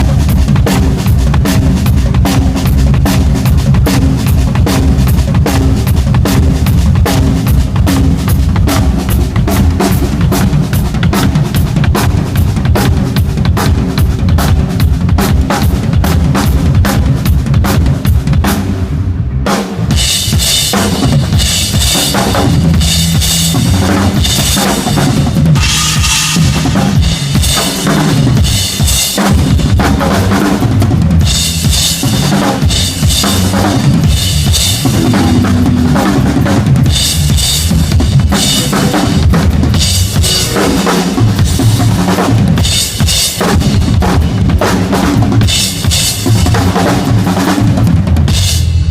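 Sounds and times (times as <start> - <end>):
rock drum kit playing: 0.0 - 48.9.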